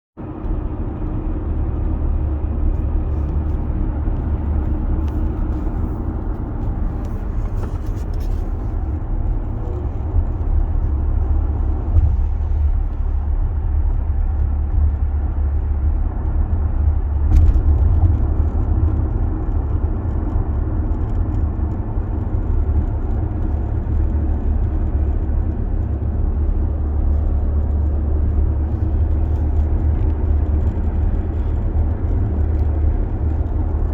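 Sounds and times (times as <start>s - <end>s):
low vehicle cabin rumble: 0.2s - 33.9s.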